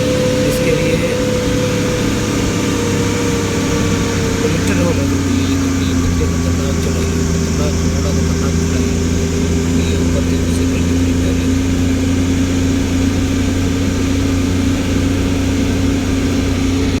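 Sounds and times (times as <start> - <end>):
vehicle engine running under load: 0.0 - 17.0.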